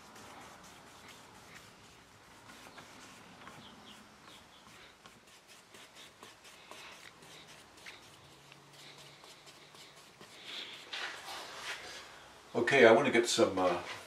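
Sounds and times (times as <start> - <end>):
hand rubbing wooden surface: 0.0 - 12.1.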